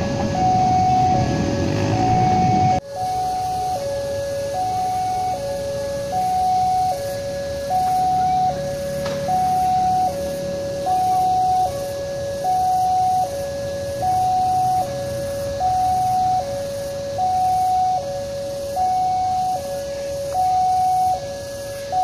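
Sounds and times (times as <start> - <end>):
level crossing two-note alarm: 0.0 - 22.0
low traffic hum: 0.0 - 22.0.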